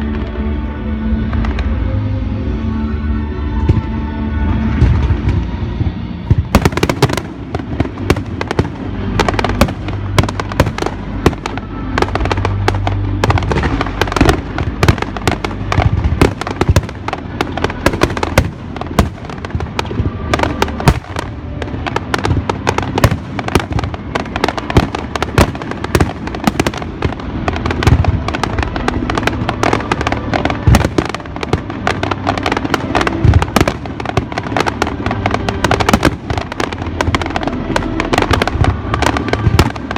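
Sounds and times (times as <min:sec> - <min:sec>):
fireworks bangs and crackles: 0:00.0 - 0:02.7, 0:03.4 - 0:39.9
music playing: 0:00.0 - 0:39.9.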